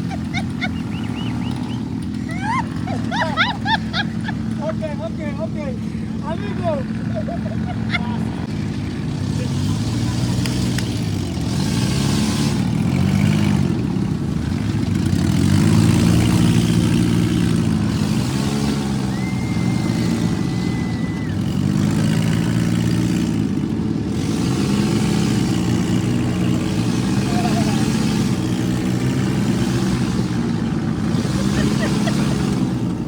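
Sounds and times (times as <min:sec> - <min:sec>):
vehicle engine revving: 0:00.0 - 0:33.0.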